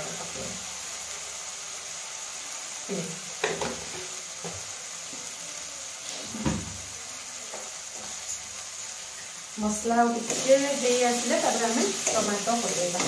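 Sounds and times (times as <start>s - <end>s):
masala sizzling in oil: 0.0s - 13.0s.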